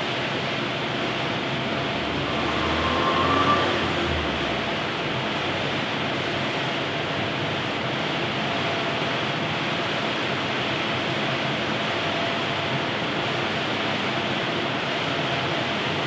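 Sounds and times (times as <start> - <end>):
large fan rushing air: 0.0 - 16.0.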